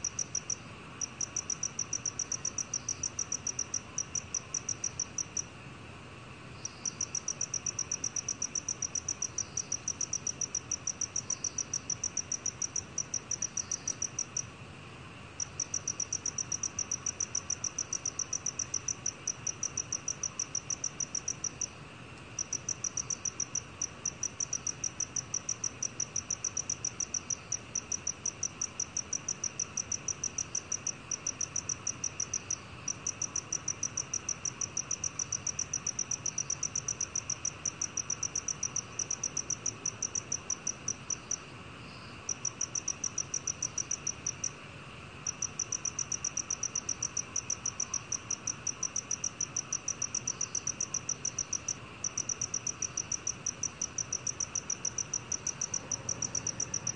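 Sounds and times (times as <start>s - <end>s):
cricket chirping: 0.0s - 5.5s, 6.5s - 14.6s, 15.2s - 56.9s.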